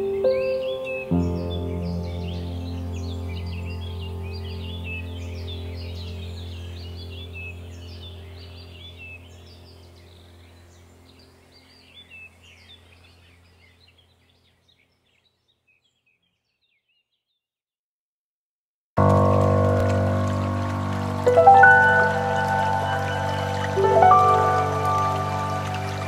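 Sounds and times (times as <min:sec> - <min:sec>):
small birds chirping: 0:00.0 - 0:17.5, 0:21.2 - 0:26.0.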